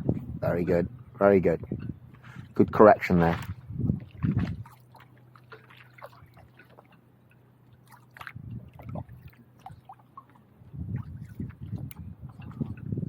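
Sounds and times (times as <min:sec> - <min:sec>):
paddle dipping and dripping: 0:00.9 - 0:13.0
small water splashes: 0:02.2 - 0:13.0.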